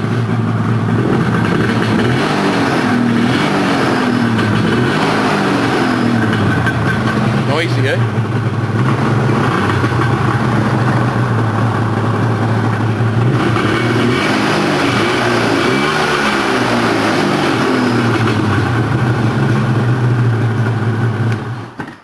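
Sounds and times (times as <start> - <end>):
snowmobile engine idling: 0.0 - 21.9.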